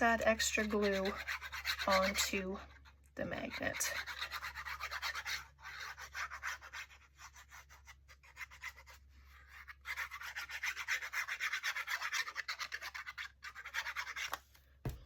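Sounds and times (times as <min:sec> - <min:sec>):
rubbing on paper: 0:00.0 - 0:14.4.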